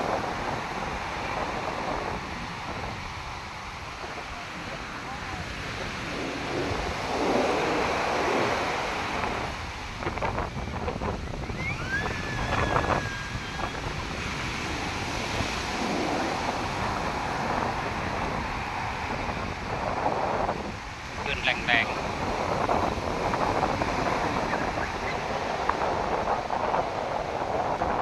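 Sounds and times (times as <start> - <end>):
sea surf breaking: 0.0 - 28.0
wind buffeting microphone: 0.0 - 28.0.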